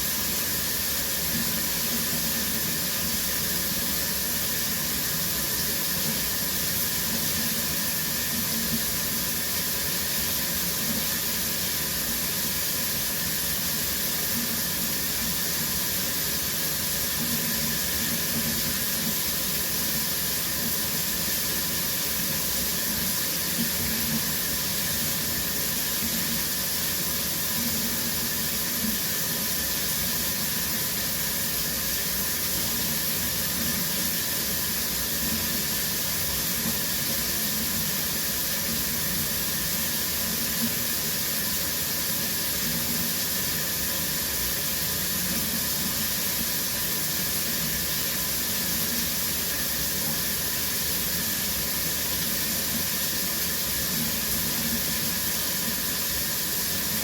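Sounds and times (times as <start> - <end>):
shower running: 0.0 - 57.0.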